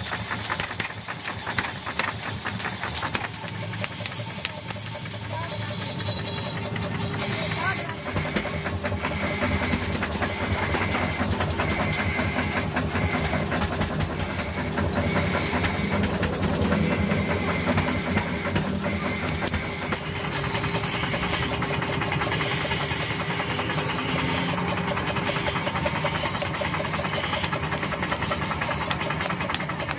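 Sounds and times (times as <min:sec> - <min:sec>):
coal fire rushing: 0:00.0 - 0:29.9
electric air blower running: 0:00.0 - 0:29.9.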